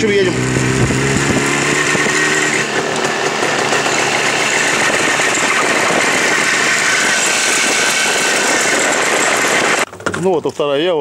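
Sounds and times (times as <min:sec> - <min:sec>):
two-stroke motorcycle engine: 0:00.0 - 0:10.2
road and wind noise: 0:00.0 - 0:10.4.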